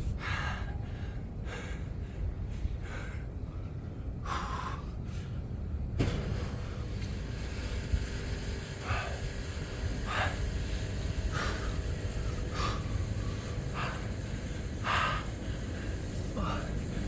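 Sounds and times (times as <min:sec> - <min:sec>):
man breathing hard and gasping: 0:00.0 - 0:05.6, 0:08.7 - 0:17.0
steady low rumble: 0:00.0 - 0:17.0.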